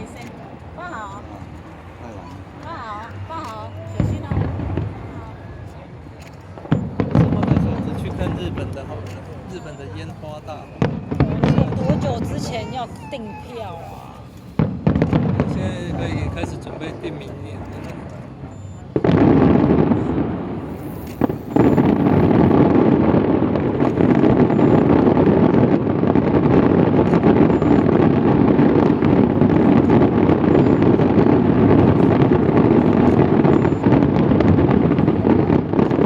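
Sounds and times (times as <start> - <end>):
fireworks crackling barrage: 0.0 - 36.0.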